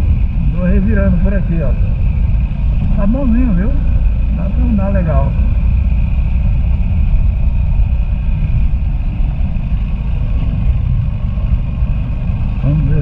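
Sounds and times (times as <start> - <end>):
motorcycle engine rumble: 0.0 - 13.0
wind noise: 0.0 - 13.0.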